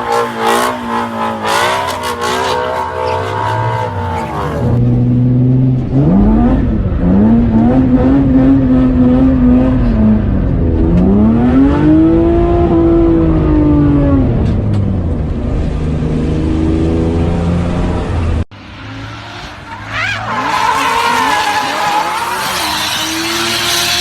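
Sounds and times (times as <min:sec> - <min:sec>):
turbocharged car engine revving: 0:00.0 - 0:14.4, 0:16.0 - 0:24.0.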